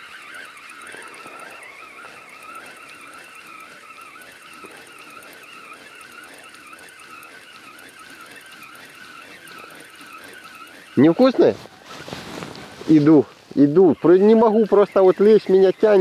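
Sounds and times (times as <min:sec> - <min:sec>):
fishing reel whining: 0:00.0 - 0:16.0.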